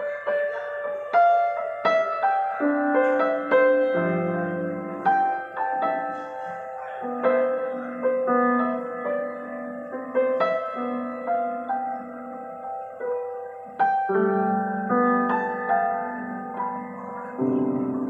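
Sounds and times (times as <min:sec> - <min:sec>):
slow mournful piano piece: 0:00.0 - 0:18.0.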